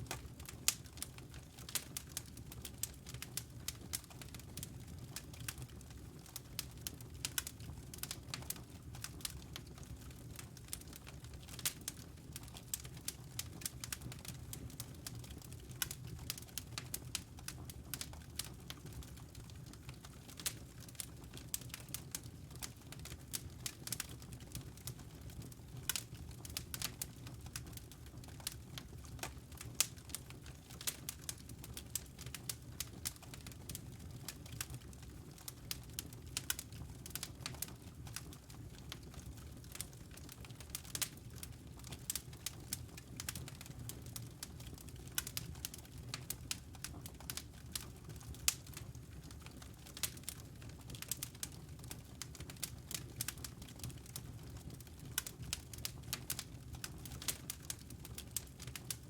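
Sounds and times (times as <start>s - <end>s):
crackling wood fire: 0.0s - 59.0s.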